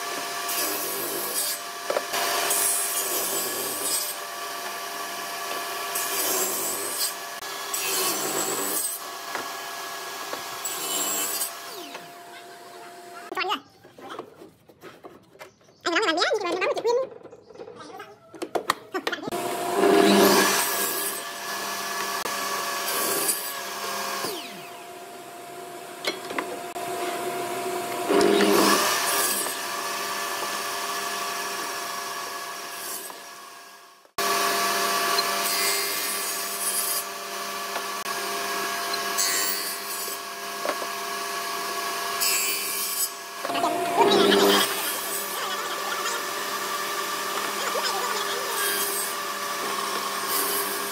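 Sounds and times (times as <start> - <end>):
table saw cutting wood: 0.0 - 13.3, 19.3 - 50.9.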